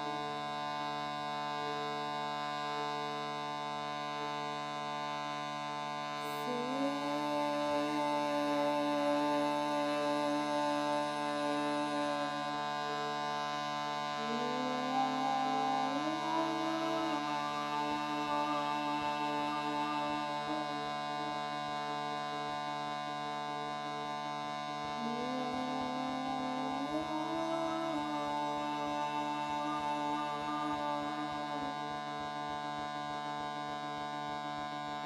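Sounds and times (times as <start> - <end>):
shruti box drone: 0.0 - 35.0
wordless singing voice: 6.0 - 35.0.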